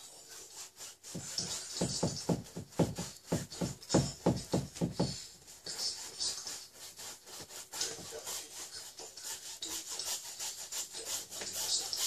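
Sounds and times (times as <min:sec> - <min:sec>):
brush scrubbing paint on canvas: 0:00.0 - 0:12.0.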